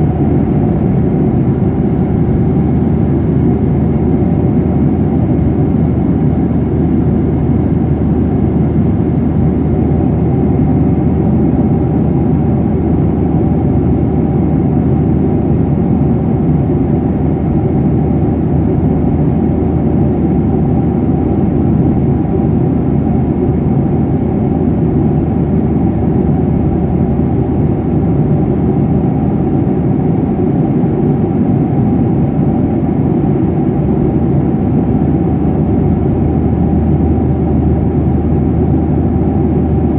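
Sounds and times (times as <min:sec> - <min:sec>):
faint steady hum tones: 0:00.0 - 0:39.9
jet engine cabin noise: 0:00.0 - 0:39.9.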